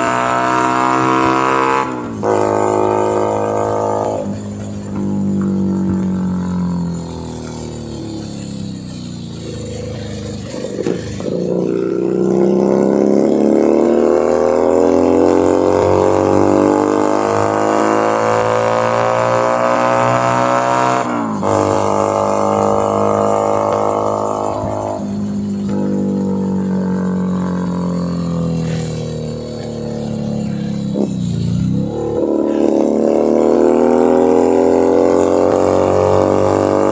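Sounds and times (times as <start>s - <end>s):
motorcycle engine and exhaust: 0.0s - 36.9s.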